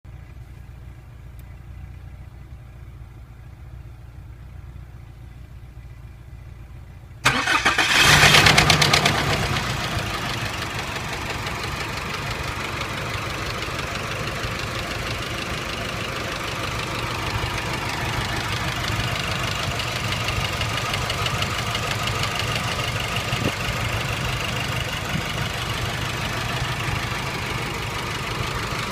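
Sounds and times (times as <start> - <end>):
diesel engine starting and idling: 0.1 - 28.9.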